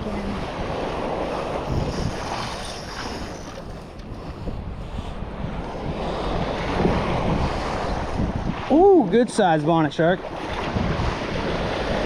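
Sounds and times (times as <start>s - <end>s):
shallow sea water washing: 0.0s - 12.0s
wind buffeting microphone: 0.0s - 12.0s.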